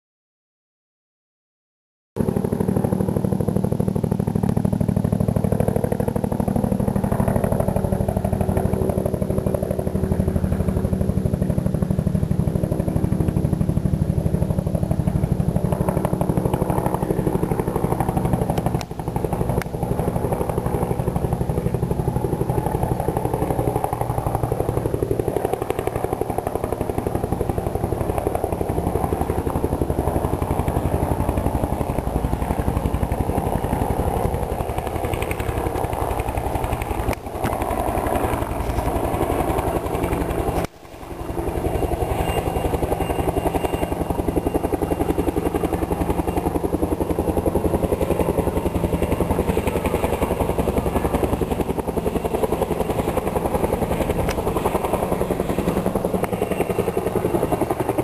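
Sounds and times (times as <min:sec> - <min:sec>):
helicopter rotor beating: 0:02.2 - 0:58.0
turbine engine whine: 0:02.2 - 0:58.0.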